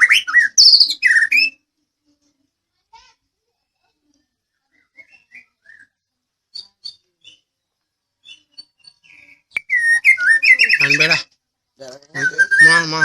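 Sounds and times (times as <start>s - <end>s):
songbird singing: 0.0s - 2.4s, 3.5s - 13.0s.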